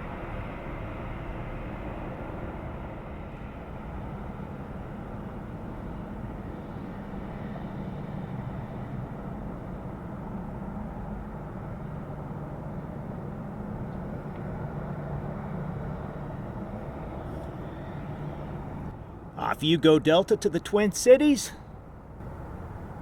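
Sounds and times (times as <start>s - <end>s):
aircraft engines droning: 0.0s - 23.0s.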